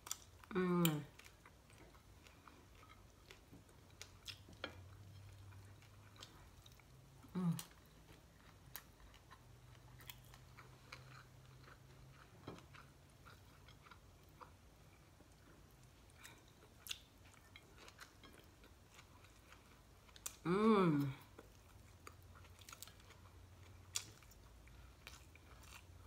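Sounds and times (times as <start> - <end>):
chewing food: 0.0 - 26.0.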